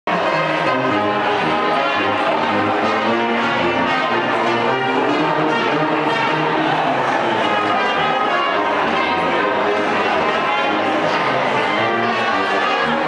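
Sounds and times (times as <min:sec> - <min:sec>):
brass band playing: 0:00.1 - 0:13.0.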